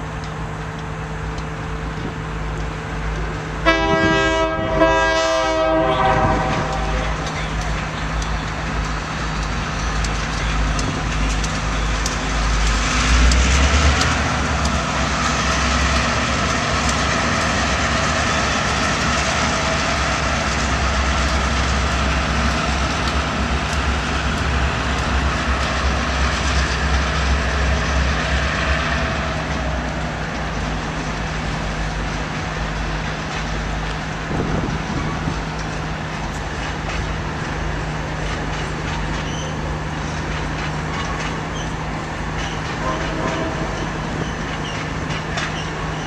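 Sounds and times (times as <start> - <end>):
diesel locomotive engine rumble: 0.0 - 46.0
freight car wheels rolling on rails: 5.8 - 46.0.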